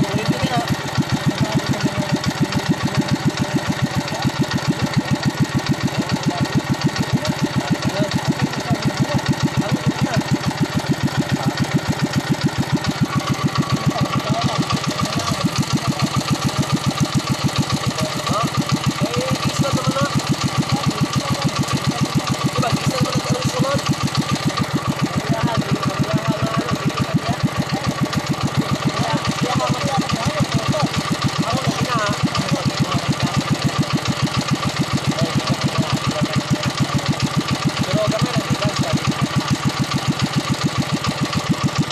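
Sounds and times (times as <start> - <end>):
single-cylinder engine running: 0.0 - 41.9.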